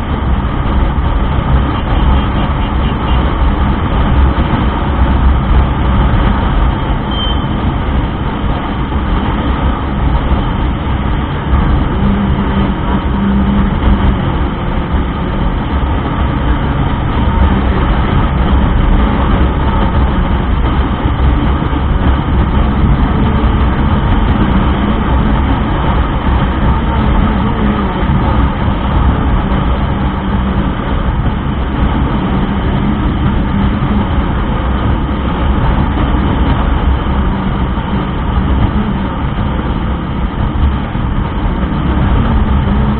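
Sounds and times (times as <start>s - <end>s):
motorcycle engine: 0.0s - 42.9s
road noise: 0.0s - 42.9s
wind rush on microphone: 0.0s - 42.9s.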